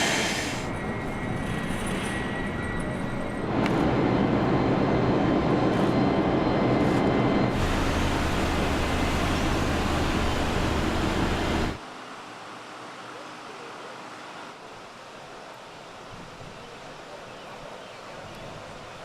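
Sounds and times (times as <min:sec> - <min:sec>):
engine-like running noise: 0:00.0 - 0:15.4.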